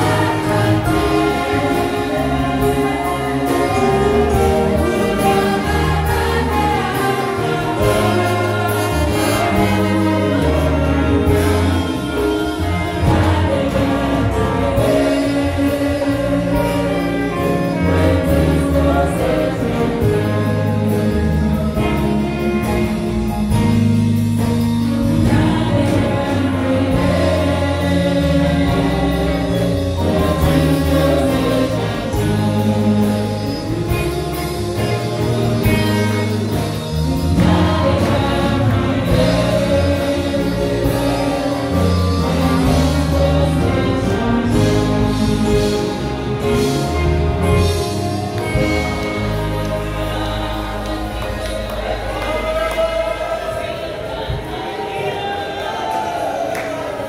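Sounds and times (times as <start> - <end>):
women singing gospel: 0.0 - 23.7, 24.9 - 55.8
instrumental backing: 0.0 - 56.5.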